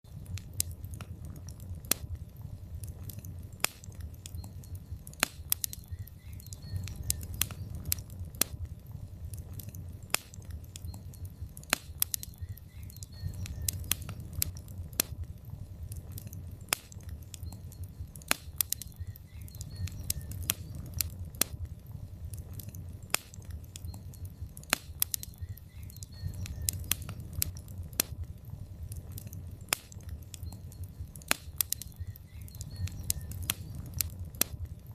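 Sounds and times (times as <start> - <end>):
fire crackling and popping: 0.0 - 34.9
low rumble of flames: 0.0 - 34.9.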